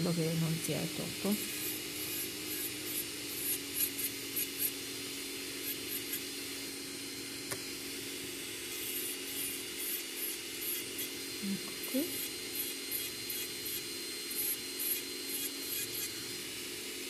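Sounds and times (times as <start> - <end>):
drill bit grinding on nail: 0.0 - 7.0, 7.6 - 17.0
electric nail drill humming: 0.0 - 17.0.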